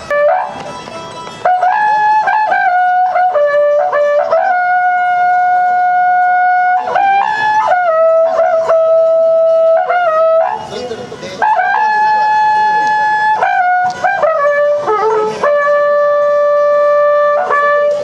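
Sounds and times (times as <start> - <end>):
horn trumpet melody: 0.0 - 10.8, 11.4 - 18.0.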